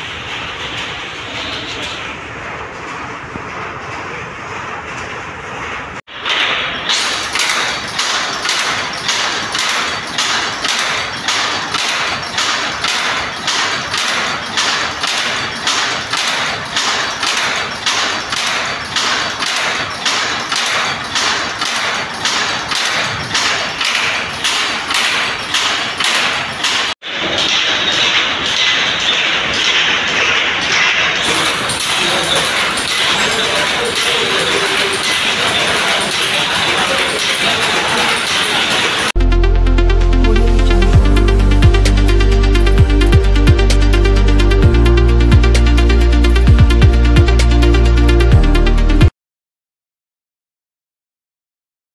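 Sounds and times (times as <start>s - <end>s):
power loom clacking: 0.0s - 49.1s.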